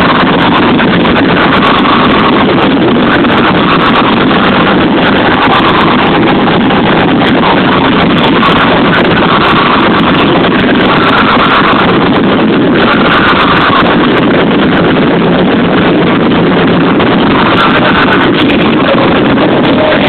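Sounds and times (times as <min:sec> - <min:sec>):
distorted live concert music: 0:00.0 - 0:20.0.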